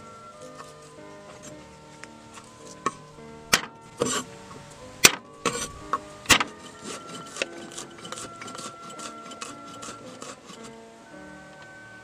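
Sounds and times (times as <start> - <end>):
background music with held tones: 0.0 - 12.0.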